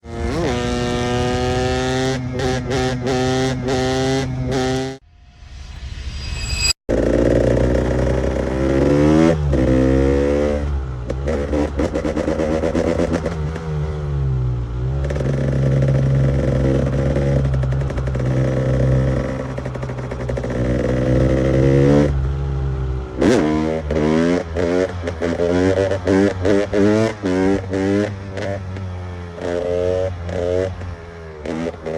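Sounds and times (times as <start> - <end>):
two-stroke motorcycle engine revving: 0.0 - 5.0, 6.9 - 31.9.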